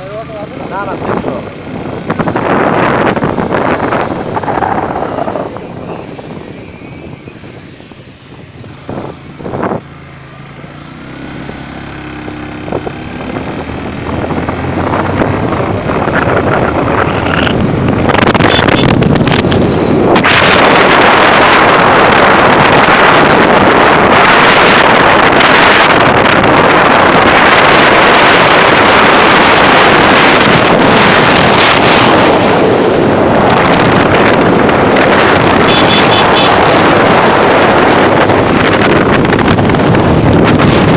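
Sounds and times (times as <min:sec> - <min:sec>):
wind buffeting microphone: 0:00.4 - 0:40.9.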